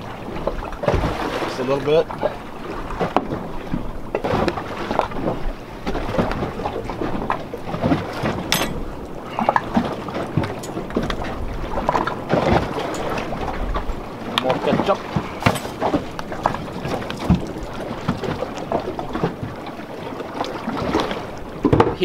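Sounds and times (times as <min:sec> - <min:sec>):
water slapping against boat hull: 0:00.0 - 0:22.0
wind buffeting microphone: 0:00.0 - 0:22.0.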